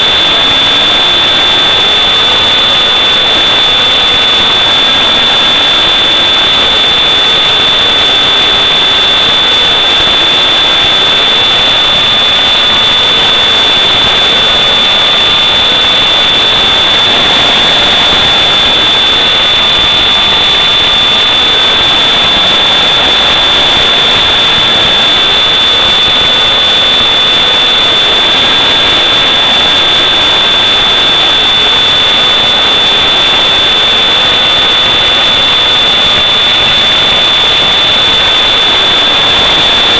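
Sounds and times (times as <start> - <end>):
model aircraft motor buzzing whine: 0.0 - 39.9
steady high-pitched tone: 0.0 - 39.9.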